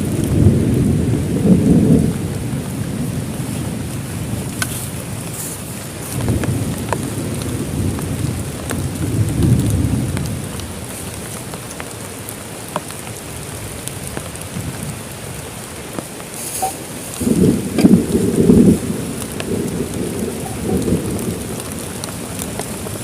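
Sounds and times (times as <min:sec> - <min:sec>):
heavy rain: 0:00.0 - 0:23.0
raindrops ticking: 0:00.0 - 0:23.0
thunder rumbling: 0:00.0 - 0:23.0.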